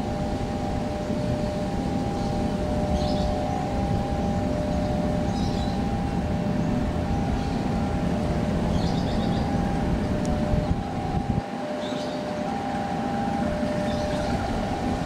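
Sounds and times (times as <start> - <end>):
faint steady whine: 0.0 - 15.0
locomotive engine rumble: 0.0 - 15.0.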